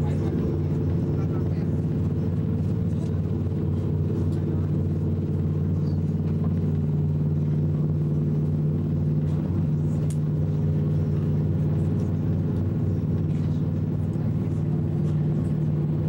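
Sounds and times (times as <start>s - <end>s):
high-speed train rumbling: 0.0s - 16.0s.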